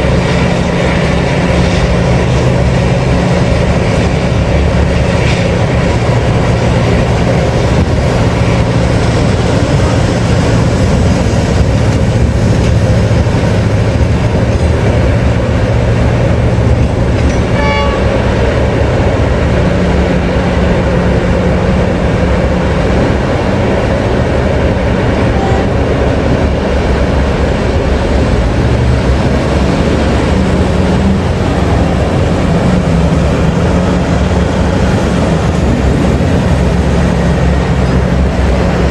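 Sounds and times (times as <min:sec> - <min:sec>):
heavy diesel engines droning: 0:00.0 - 0:38.9.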